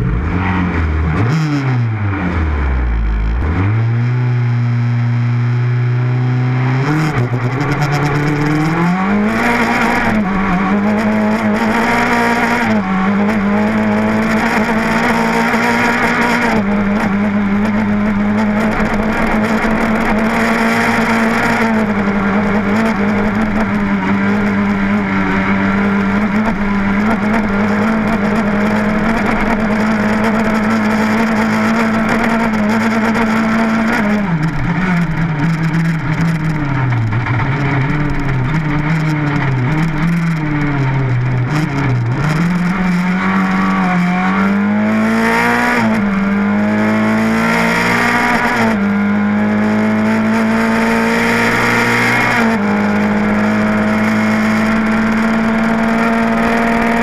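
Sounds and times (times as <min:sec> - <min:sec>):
rally car engine accelerating: 0:00.0 - 0:57.0
road and gravel noise: 0:00.0 - 0:57.0.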